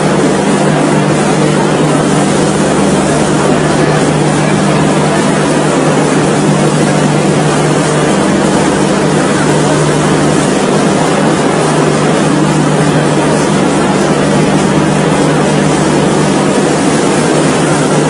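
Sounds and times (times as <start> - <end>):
constant low hum: 0.0 - 18.0
moving train running noise: 0.0 - 18.0.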